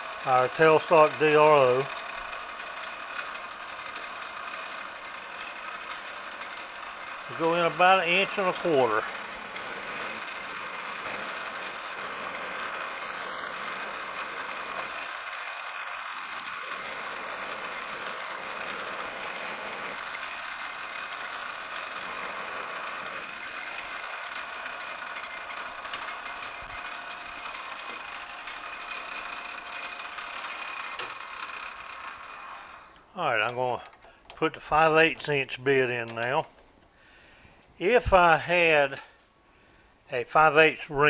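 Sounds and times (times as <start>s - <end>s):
drill bit boring into metal: 0.0s - 36.4s
metal lathe running: 0.0s - 36.4s.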